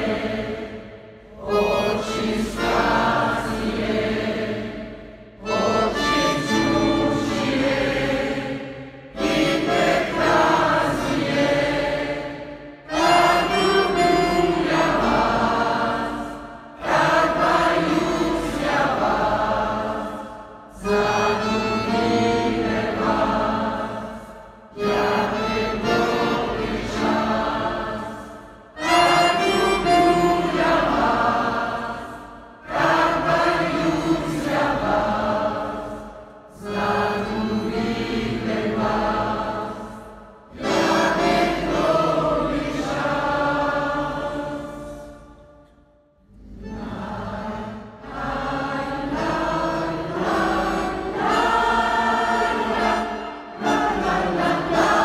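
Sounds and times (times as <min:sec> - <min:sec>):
mixed choir singing: 0:00.0 - 0:45.5, 0:46.3 - 0:55.0.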